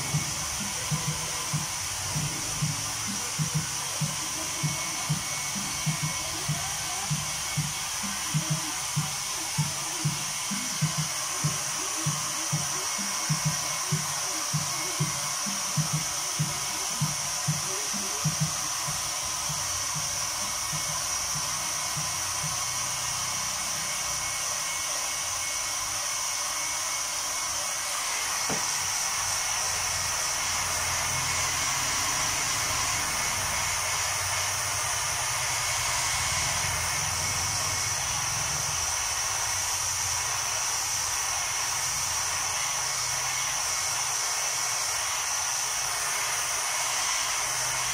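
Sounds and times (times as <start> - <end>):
hair dryer blowing: 0.0 - 47.9.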